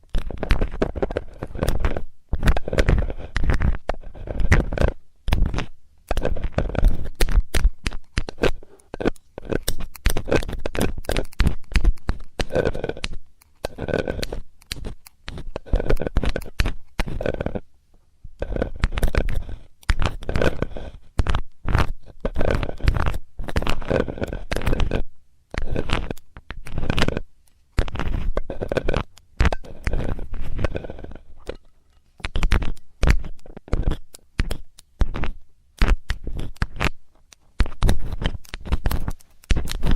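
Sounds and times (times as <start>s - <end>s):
metal tool scraping microphone: 0.0s - 17.7s, 18.4s - 37.0s, 37.6s - 39.9s.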